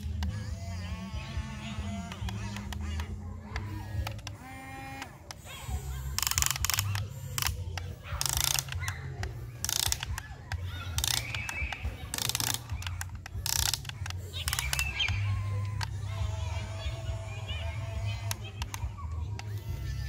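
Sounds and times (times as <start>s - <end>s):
steady low hum: 0.0s - 20.0s
toy excavator motors grinding: 0.0s - 20.0s.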